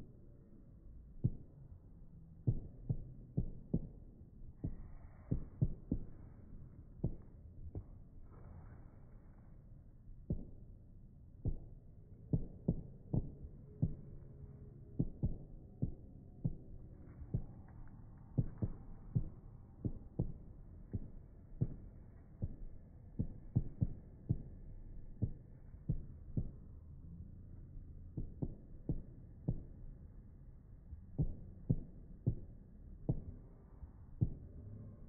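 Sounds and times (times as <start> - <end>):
low rumble: 0.0 - 35.0.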